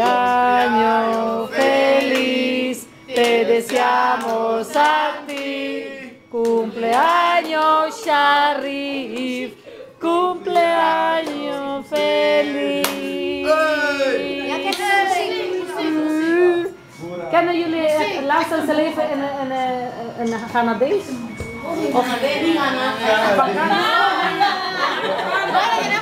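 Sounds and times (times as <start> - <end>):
people singing together: 0.0 - 19.1, 21.6 - 26.0.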